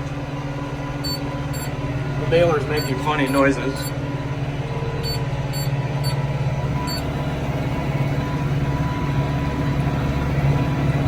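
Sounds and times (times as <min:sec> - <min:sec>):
tractor engine running: 0:00.0 - 0:11.0
round baler working: 0:01.0 - 0:11.0.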